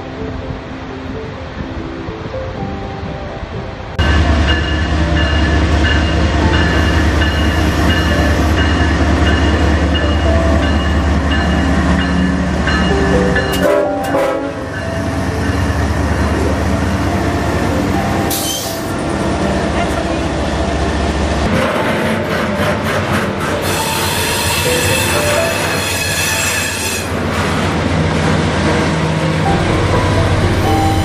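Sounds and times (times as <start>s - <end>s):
music: 0.0s - 27.1s, 29.2s - 31.0s
diesel locomotive engine rumble: 0.0s - 31.0s
train cars rolling by: 3.9s - 31.0s.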